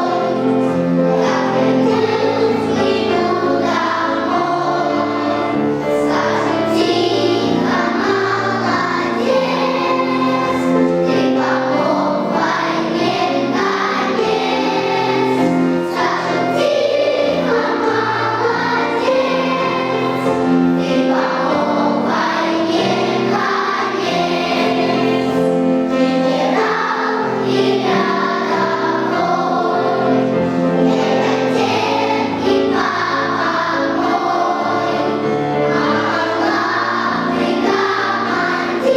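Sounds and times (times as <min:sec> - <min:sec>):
children's choir singing: 0:00.0 - 0:38.9
instrumental accompaniment: 0:00.0 - 0:38.9.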